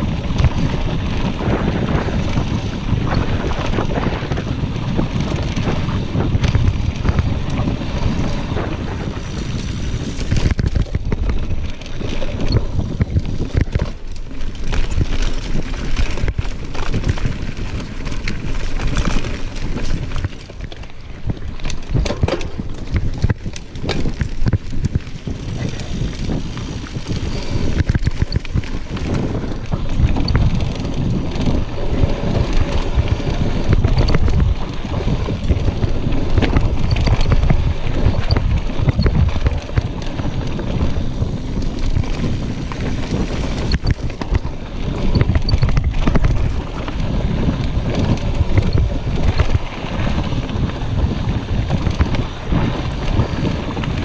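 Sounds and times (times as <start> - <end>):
bike knocks and rattles: 0.0 - 54.0
bike tires rolling on dirt: 0.0 - 54.0
wind buffeting microphone: 0.0 - 54.0.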